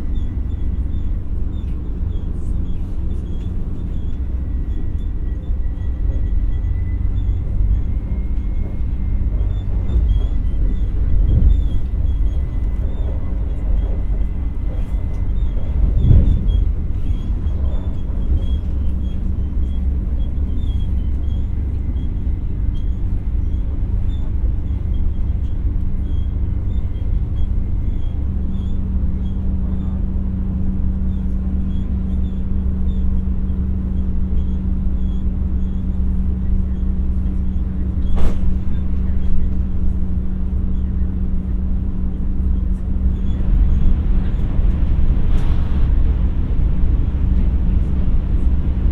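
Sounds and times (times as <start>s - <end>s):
train hum: 0.0s - 48.9s
train low rumble: 0.0s - 48.9s.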